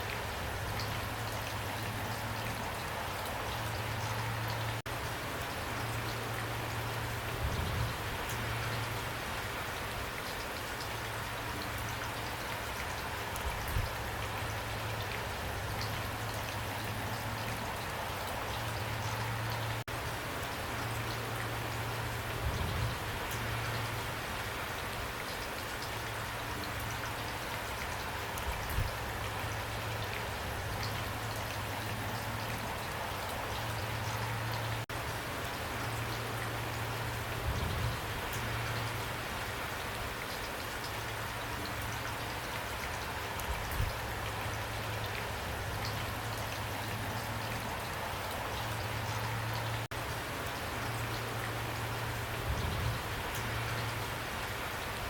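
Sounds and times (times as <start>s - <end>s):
steady downpour of rain: 0.0s - 55.0s.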